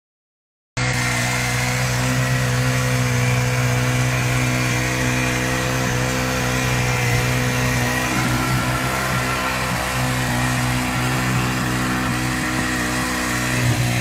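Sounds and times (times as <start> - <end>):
small petrol engine running: 0.8 - 14.0.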